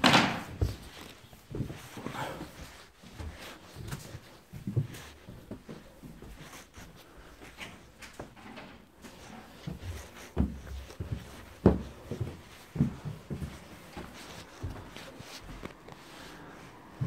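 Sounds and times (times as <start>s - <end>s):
footsteps and low thuds: 0.0s - 8.4s, 9.0s - 16.1s.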